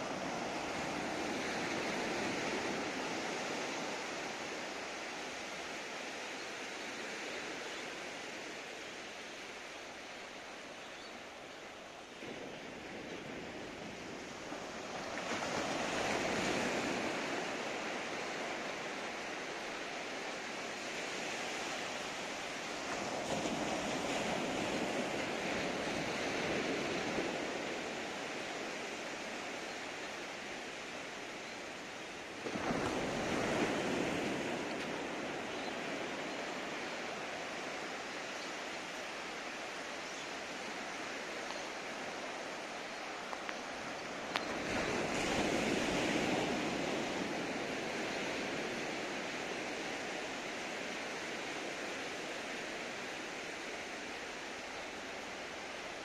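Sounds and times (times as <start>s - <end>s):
waves breaking on sandy beach: 0.0s - 56.0s.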